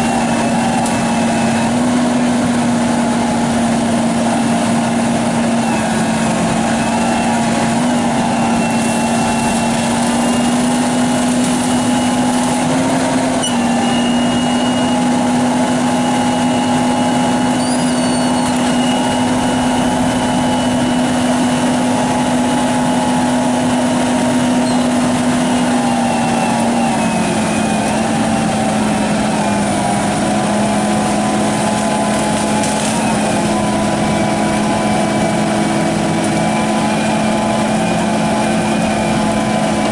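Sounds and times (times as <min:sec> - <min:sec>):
engine running at high speed: 0:00.0 - 0:39.9.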